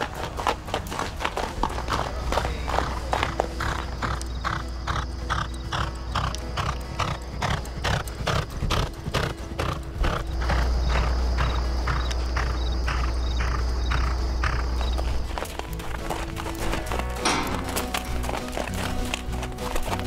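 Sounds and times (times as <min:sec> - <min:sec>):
horse hoofbeats galloping: 0:00.0 - 0:20.0.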